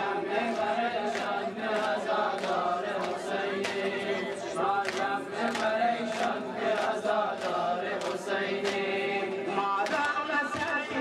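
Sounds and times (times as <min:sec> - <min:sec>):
group chanting a lament: 0:00.0 - 0:11.0
sharp rhythmic beats: 0:00.0 - 0:11.0.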